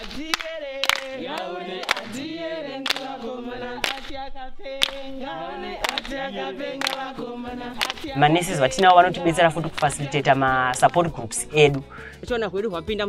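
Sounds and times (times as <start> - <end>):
hand clapping: 0.0 - 4.2, 4.8 - 11.9
group singing unaccompanied: 0.0 - 12.0.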